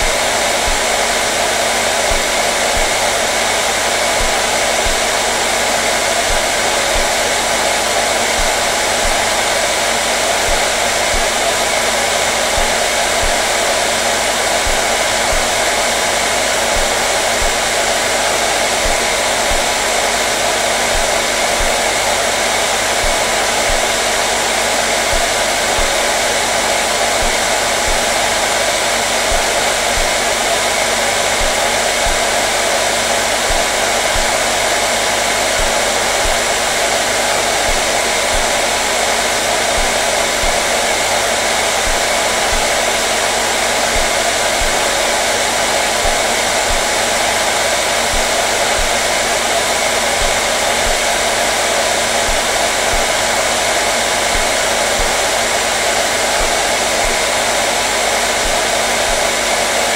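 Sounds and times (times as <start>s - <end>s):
faint motor hum: 0.0s - 57.8s
hair dryer blowing air: 0.0s - 59.9s.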